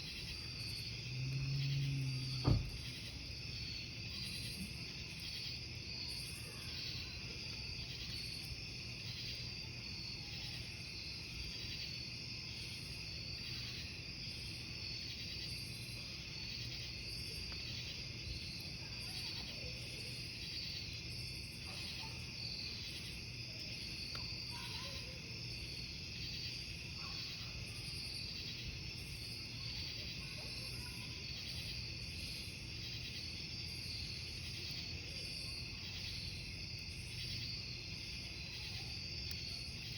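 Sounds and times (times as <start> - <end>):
campfire burning: 0.0 - 1.2, 2.1 - 30.3, 31.0 - 39.9
crickets chirping: 0.0 - 39.9.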